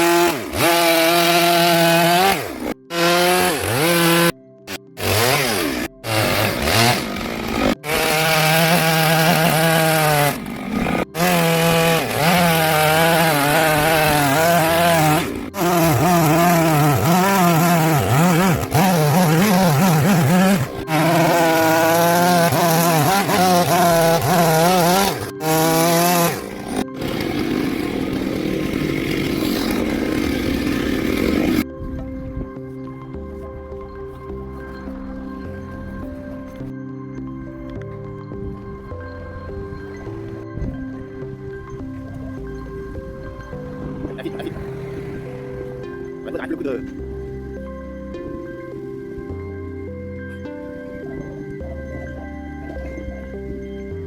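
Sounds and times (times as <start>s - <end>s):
chainsaw cutting wood: 0.0s - 32.1s, 37.8s - 54.0s.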